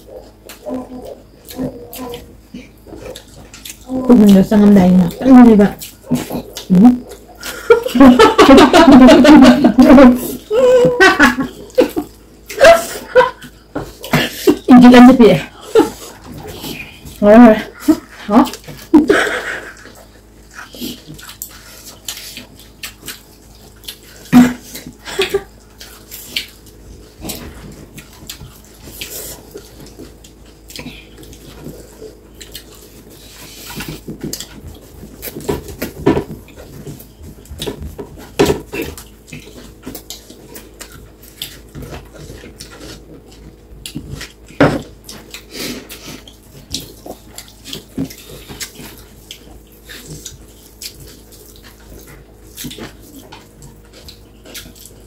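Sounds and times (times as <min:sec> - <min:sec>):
wet chewing and mouth smacking: 0:00.0 - 0:04.4, 0:05.0 - 0:07.5, 0:15.5 - 0:55.0.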